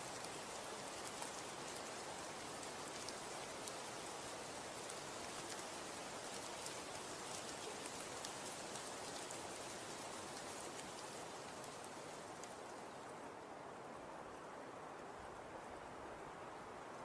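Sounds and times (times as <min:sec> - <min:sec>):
snow pattering with soft hiss: 0:00.0 - 0:17.0.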